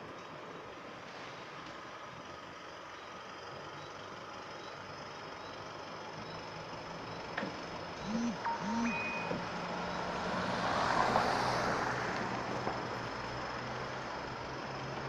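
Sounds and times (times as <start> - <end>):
car approaching: 0.0 - 15.0.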